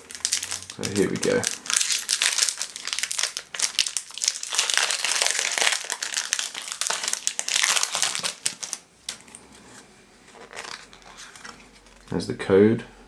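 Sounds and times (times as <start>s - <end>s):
foil wrapper crinkling and tearing: 0.0s - 8.8s, 10.4s - 12.2s.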